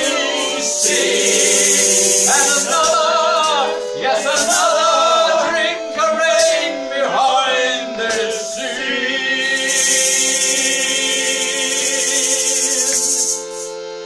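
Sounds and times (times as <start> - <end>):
man singing: 0.0 - 13.4
electric keyboard sustained chords: 0.0 - 14.0.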